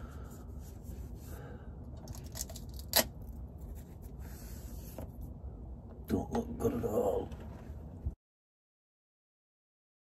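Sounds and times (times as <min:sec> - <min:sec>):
low steady rumble: 0:00.0 - 0:08.2.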